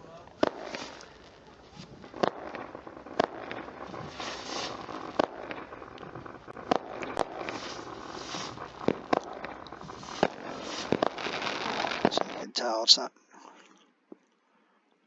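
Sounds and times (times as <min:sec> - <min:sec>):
firework bangs: 0:00.0 - 0:13.0
firework crackling and hissing: 0:00.0 - 0:13.1.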